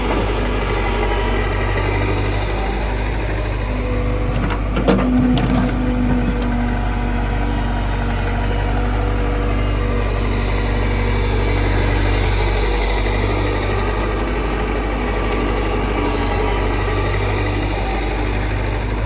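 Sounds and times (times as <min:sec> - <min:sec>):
heavy diesel engine humming: 0:00.0 - 0:19.0.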